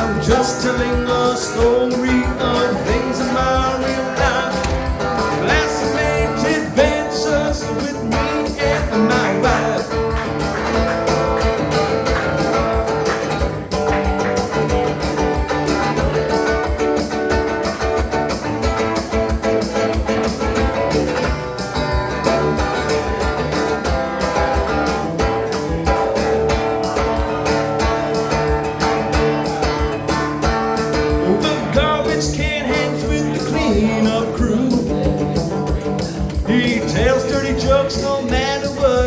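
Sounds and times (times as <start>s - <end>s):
lead guitar: 0.0s - 39.0s
live band instrumental: 0.0s - 39.0s.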